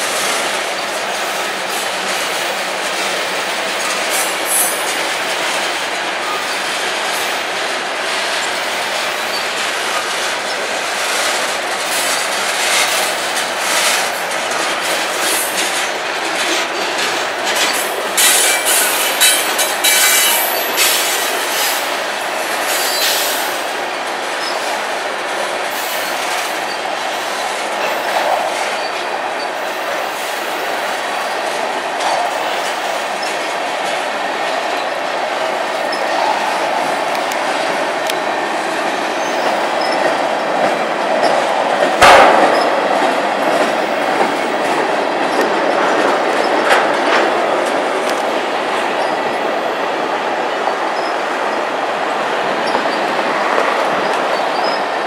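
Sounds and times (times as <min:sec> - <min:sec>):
steel wheels clicking over rails: 0:00.0 - 0:55.0.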